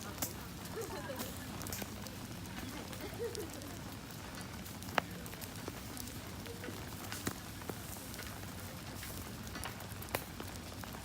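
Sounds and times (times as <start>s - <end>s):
campfire crackling and popping: 0.0s - 11.0s
rain pattering: 0.0s - 11.0s.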